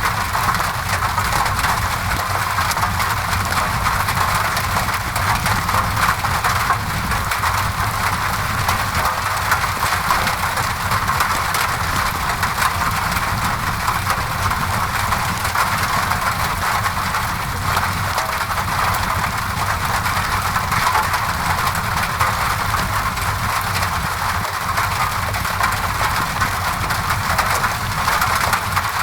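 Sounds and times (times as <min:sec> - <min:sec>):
low steady rumble: 0:00.0 - 0:29.0
rain on a window: 0:00.0 - 0:29.0.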